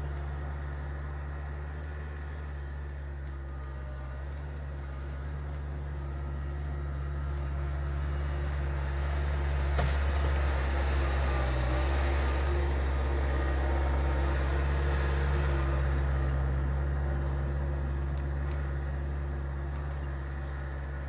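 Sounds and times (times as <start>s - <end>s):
skid steer engine running: 0.0s - 21.0s.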